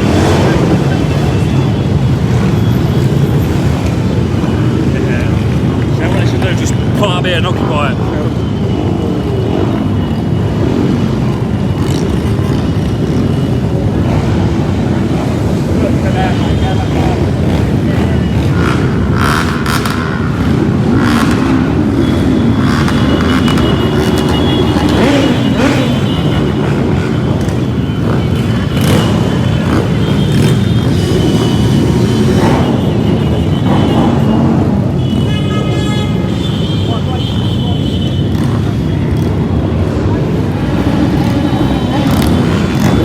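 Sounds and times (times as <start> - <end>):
many motorcycle engines rumbling: 0.0 - 43.0.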